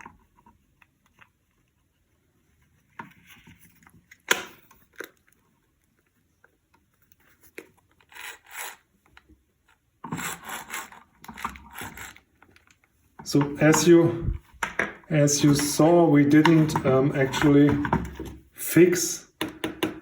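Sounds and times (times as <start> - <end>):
plastic parts scraping and rubbing: 0.0 - 18.5.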